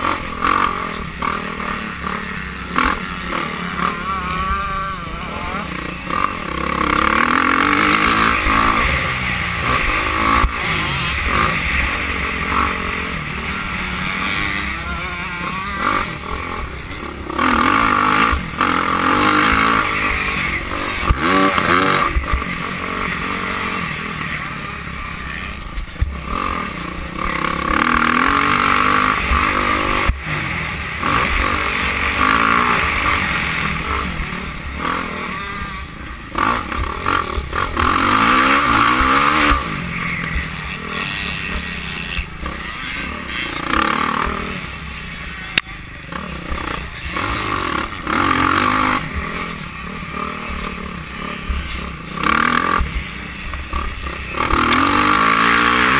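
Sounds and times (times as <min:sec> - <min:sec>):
dirt bike engines revving: 0:00.0 - 0:55.9.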